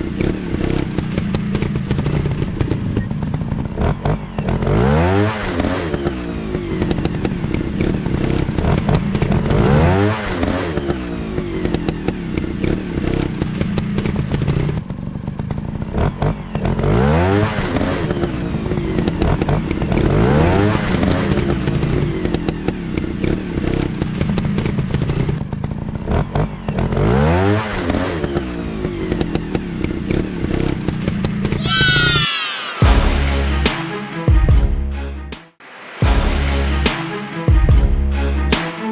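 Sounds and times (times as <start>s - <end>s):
motocross bike engines revving: 0.0s - 32.1s.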